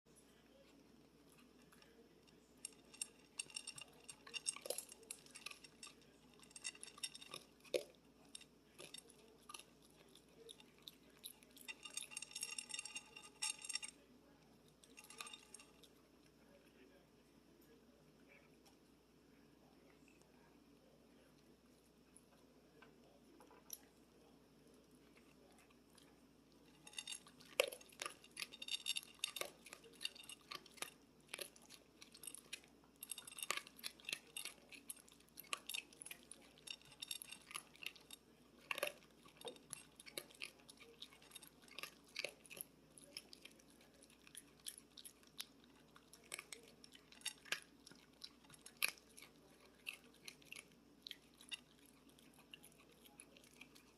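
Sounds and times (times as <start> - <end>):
raccoon crunching food: 0.2 - 16.6, 21.1 - 53.9.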